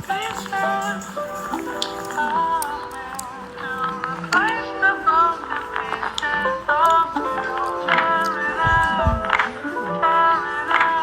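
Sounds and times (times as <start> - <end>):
pop music with high vocals: 0.0 - 11.0.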